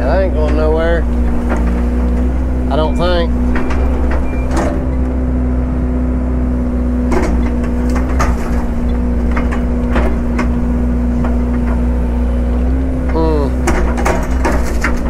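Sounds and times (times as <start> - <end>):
wood knocking and clacking: 0.0 - 5.2, 7.1 - 15.0
excavator diesel engine running: 0.0 - 15.0.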